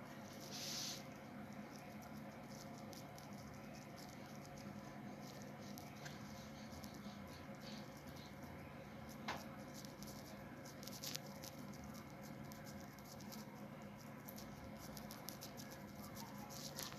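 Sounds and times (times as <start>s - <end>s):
steady hum: 0.0s - 16.9s.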